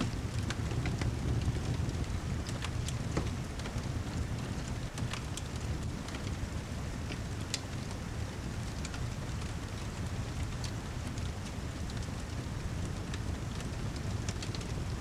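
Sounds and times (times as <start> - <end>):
steady rain hiss: 0.0 - 15.0
wood fire popping: 0.0 - 15.0.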